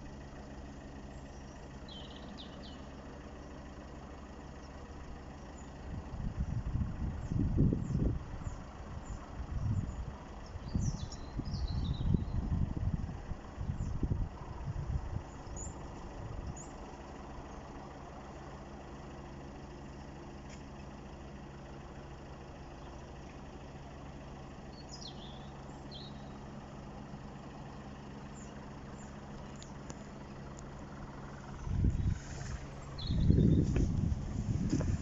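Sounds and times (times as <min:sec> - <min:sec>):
low rumbling: 0:00.0 - 0:20.2, 0:21.0 - 0:35.0
engine idling: 0:00.0 - 0:35.0.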